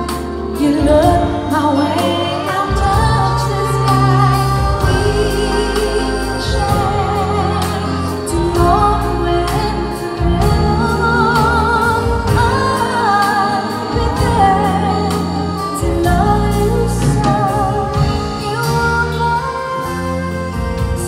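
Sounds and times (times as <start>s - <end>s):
live band playing: 0.0s - 21.0s
woman singing a ballad: 0.0s - 21.0s.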